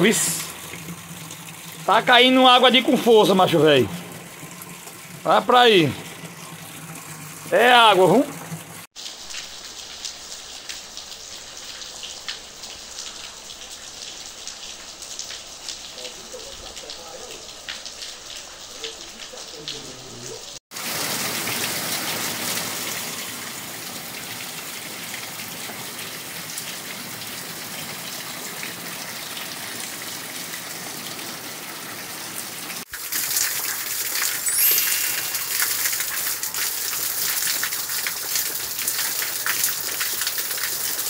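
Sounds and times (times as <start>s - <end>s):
raindrop splashes: 0.0s - 31.3s, 32.7s - 41.0s.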